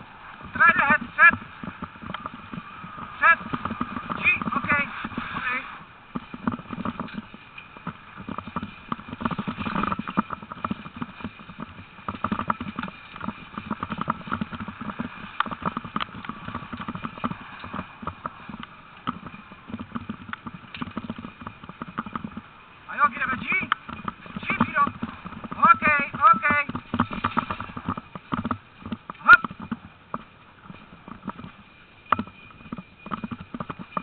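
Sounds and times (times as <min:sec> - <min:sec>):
paws pattering on gravel: 0:00.0 - 0:34.0
rig rattling over stones: 0:00.0 - 0:34.0.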